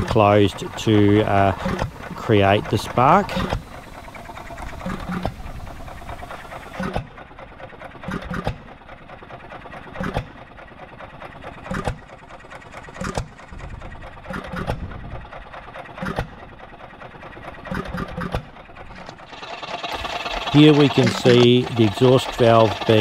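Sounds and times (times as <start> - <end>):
engine clicking: 0.0 - 23.0.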